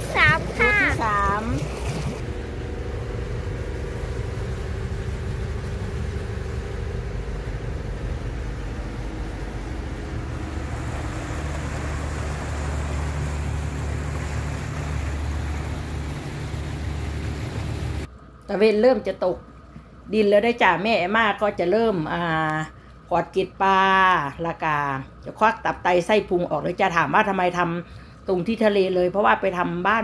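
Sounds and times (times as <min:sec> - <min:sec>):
motorboat engine droning: 0:00.0 - 0:30.0.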